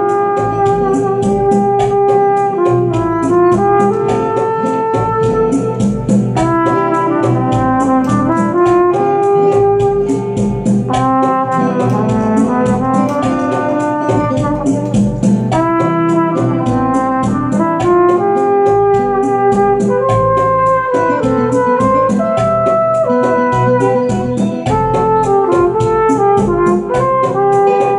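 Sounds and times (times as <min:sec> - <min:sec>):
backing track: 0:00.0 - 0:27.9
ticking beat: 0:00.0 - 0:27.9
trumpet melody: 0:00.0 - 0:27.9.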